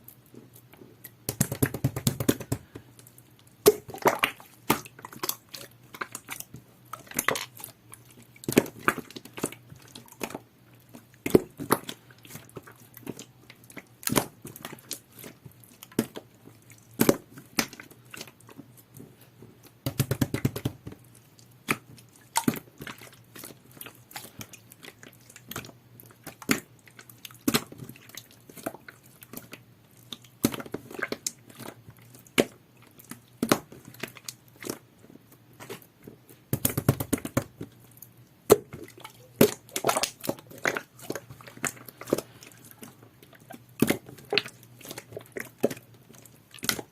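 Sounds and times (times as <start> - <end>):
slime squishing by hand: 0.0 - 46.9.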